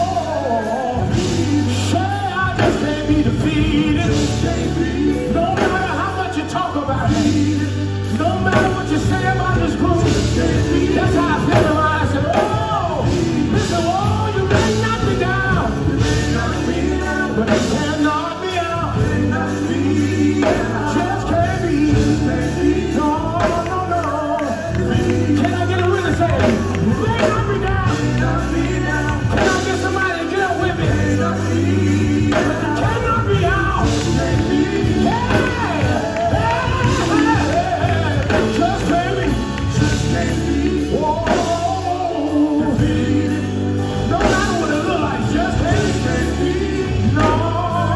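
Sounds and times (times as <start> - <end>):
backing vocals: 0.0 - 47.9
electric bass guitar: 0.0 - 47.9
keyboard: 0.0 - 47.9
lead singer singing runs: 0.0 - 47.9.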